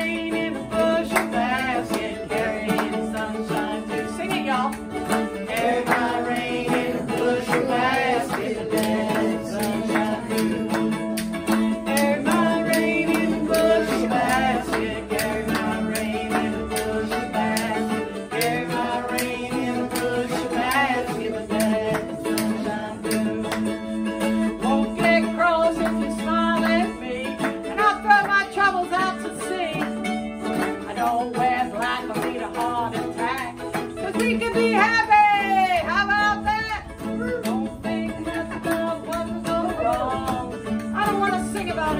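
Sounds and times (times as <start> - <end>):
woman singing: 0.0 - 23.7, 24.4 - 41.9
strummed ukulele: 0.0 - 41.9.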